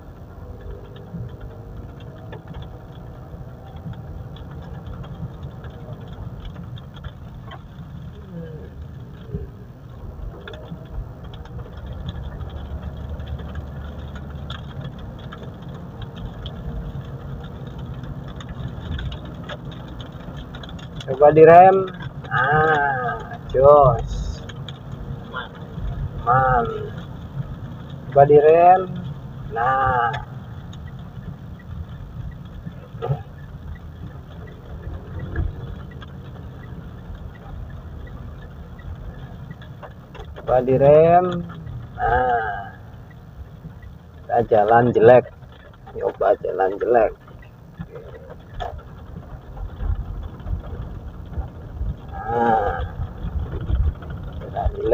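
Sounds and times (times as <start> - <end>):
engine and road rumble: 0.0 - 54.9
faint regular ticking: 0.0 - 54.9
light clicks and rattles: 0.0 - 54.9.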